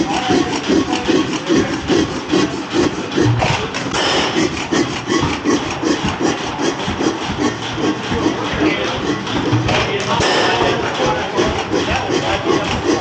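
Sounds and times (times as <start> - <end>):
hit-and-miss engine running: 0.0 - 13.0.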